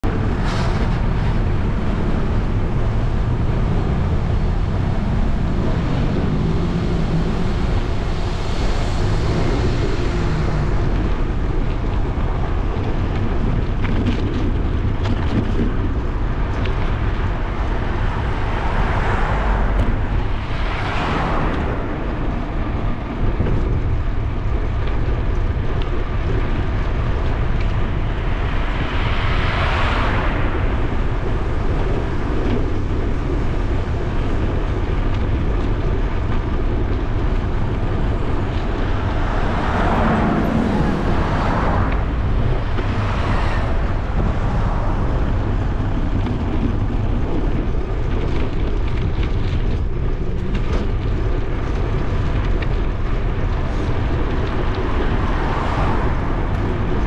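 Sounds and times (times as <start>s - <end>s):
cars passing: 0.0s - 57.0s
wind rumble on microphone: 0.0s - 57.0s.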